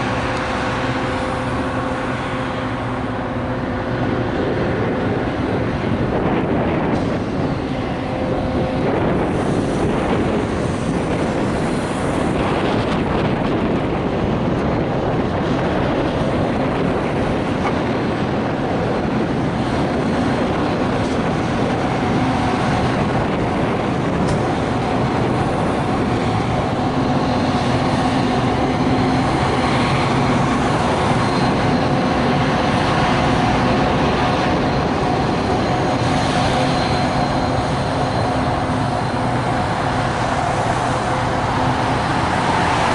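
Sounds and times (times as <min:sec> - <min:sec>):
rail noise: 0:00.0 - 0:42.9
train engine drone: 0:00.0 - 0:42.9.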